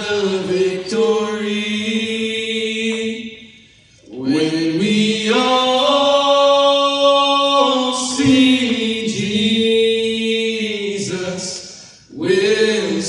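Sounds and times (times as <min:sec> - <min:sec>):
men singing hymn in harmony: 0:00.0 - 0:13.0.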